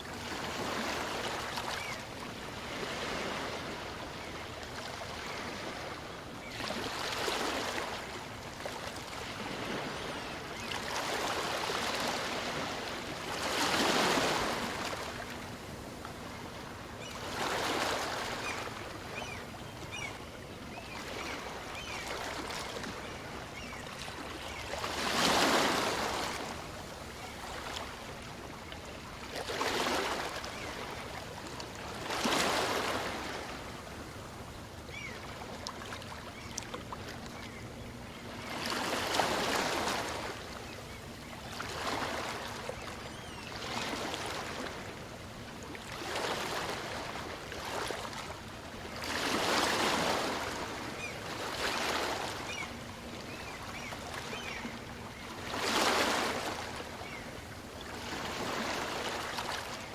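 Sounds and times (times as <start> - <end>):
small waves breaking: 0.0 - 59.9.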